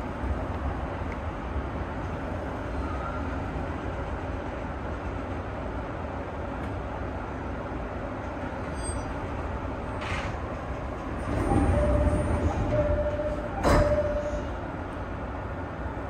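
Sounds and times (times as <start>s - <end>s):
electric train low rumble: 0.0s - 16.0s.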